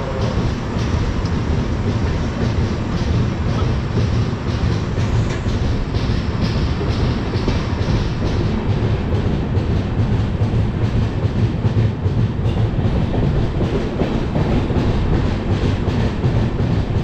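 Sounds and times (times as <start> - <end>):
train rumble: 0.0 - 17.0
wheels clacking over rail joints: 0.0 - 17.0.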